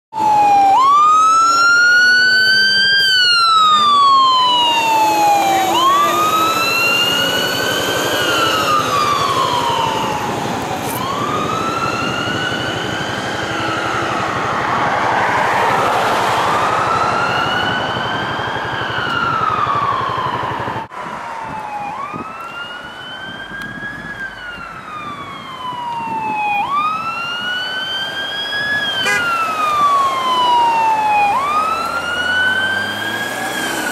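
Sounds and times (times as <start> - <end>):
emergency siren wailing: 0.1 - 33.9
heavy vehicle passing: 0.8 - 33.9.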